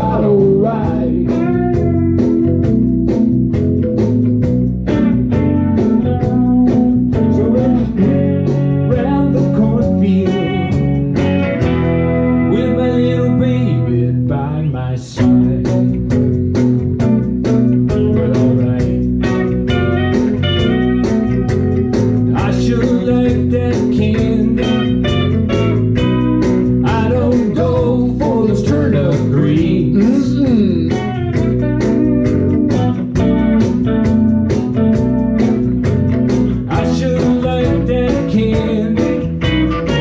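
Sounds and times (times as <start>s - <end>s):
live band with electric guitars: 0.0s - 40.0s.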